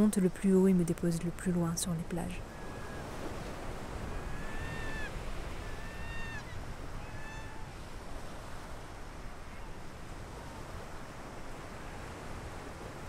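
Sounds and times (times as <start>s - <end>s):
surf and wind hiss: 0.0s - 13.0s.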